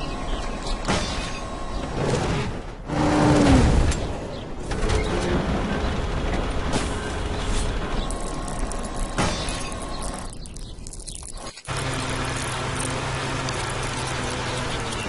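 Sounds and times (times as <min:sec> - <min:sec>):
machines clanking and whirring: 0:00.0 - 0:15.0.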